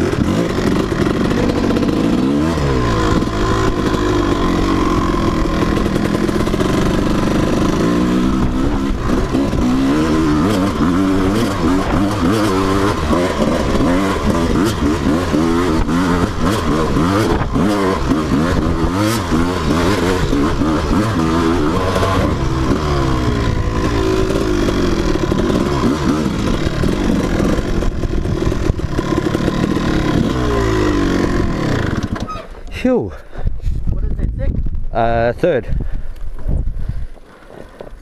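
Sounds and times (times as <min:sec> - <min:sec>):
dirt bike engine revving: 0:00.0 - 0:32.6.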